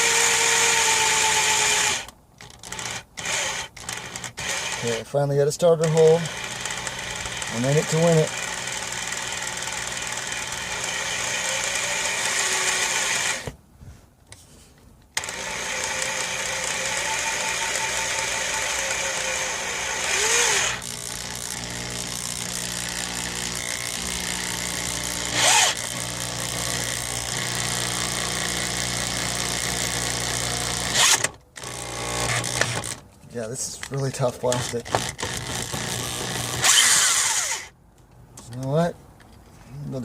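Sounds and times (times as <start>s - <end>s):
electric drill boring into plastic: 0.0s - 5.0s, 5.8s - 13.6s, 15.2s - 33.0s, 34.4s - 37.7s.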